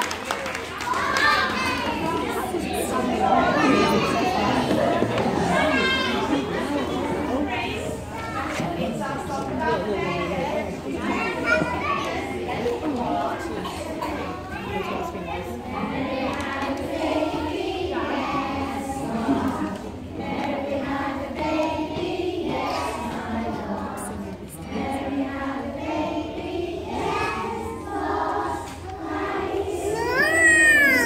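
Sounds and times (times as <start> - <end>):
adults and children singing: 0.0 - 31.0.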